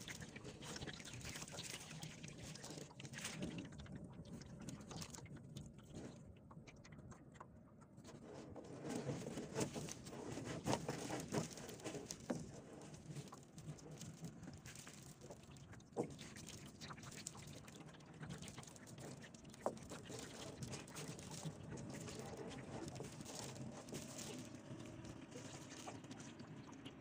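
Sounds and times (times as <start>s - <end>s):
fishing net and plastic rustling: 0.0s - 6.2s, 8.0s - 26.4s.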